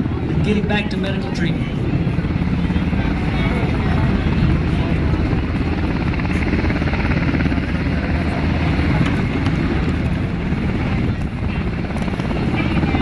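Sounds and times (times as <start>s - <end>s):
helicopter engines and rotors: 0.0s - 13.0s.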